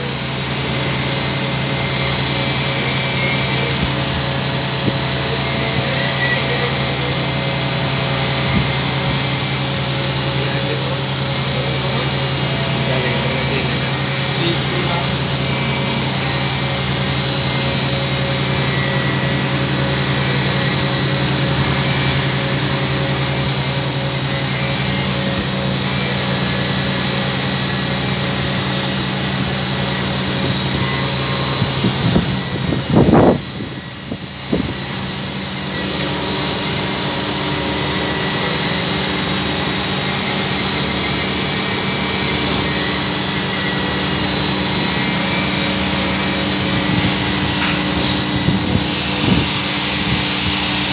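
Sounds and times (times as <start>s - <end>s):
machine hum with high whine: 0.0s - 50.9s.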